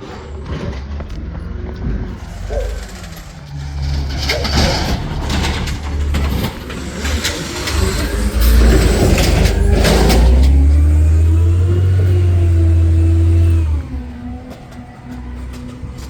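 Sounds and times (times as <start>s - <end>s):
garbage truck diesel engine: 0.0s - 16.0s
metal clanks and knocks: 0.0s - 16.0s.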